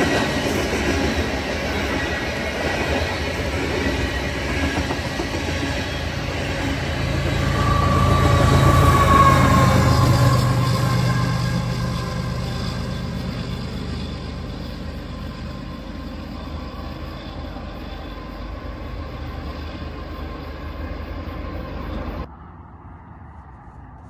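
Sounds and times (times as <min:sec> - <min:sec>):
diesel locomotive engine drone: 0:00.0 - 0:24.0
train rail rumble: 0:00.0 - 0:24.0.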